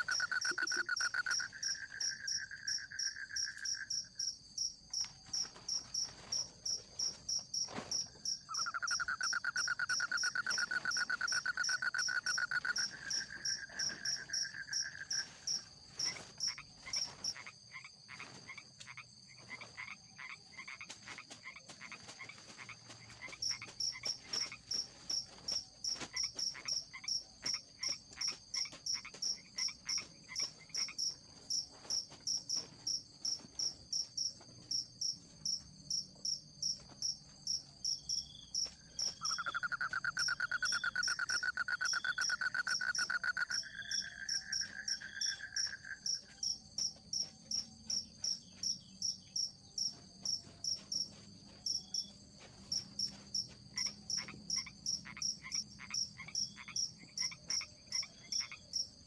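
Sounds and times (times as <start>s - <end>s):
insects chirping: 0.0s - 59.0s
repeating insect call: 0.0s - 59.0s.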